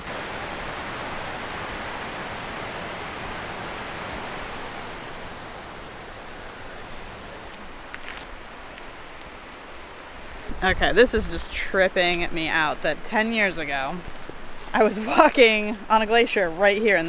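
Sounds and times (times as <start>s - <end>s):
river rushing over rocks: 0.0s - 16.5s.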